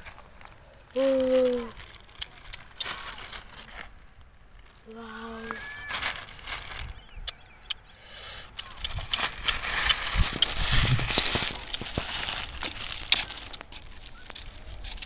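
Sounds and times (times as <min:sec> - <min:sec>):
plastic bag crinkling: 0:00.0 - 0:07.2, 0:08.9 - 0:15.0.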